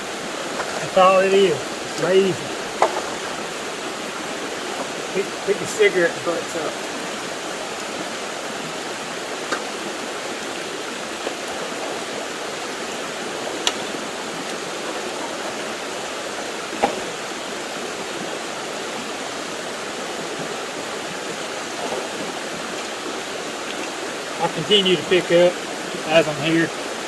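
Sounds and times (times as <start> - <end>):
stream rushing: 0.0 - 27.0.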